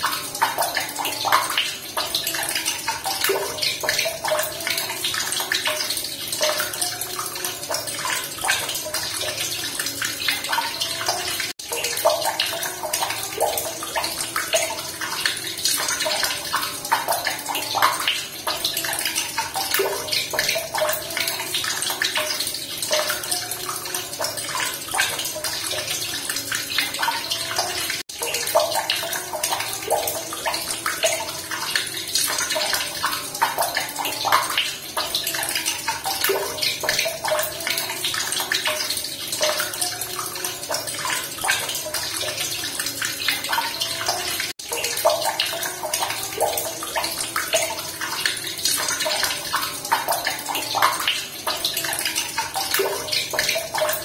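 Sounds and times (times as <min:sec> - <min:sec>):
running water splashing and trickling: 0:00.0 - 0:54.0.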